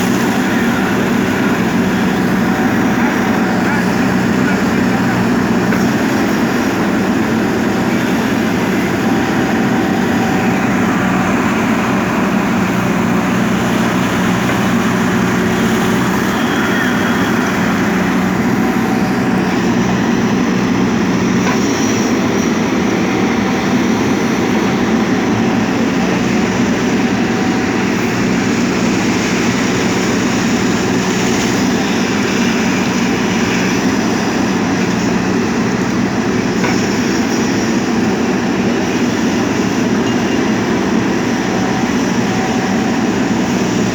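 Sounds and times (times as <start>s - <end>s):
diesel machine engine rumble: 0.0s - 43.9s.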